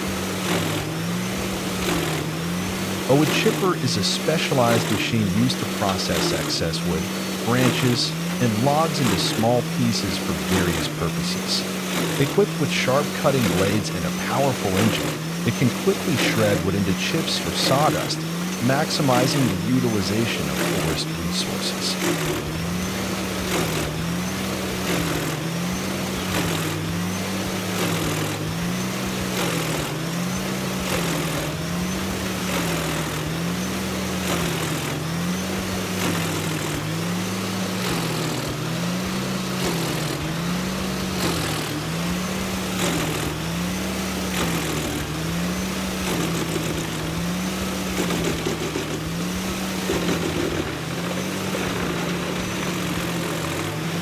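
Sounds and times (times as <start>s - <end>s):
wood chipper running: 0.0s - 54.0s.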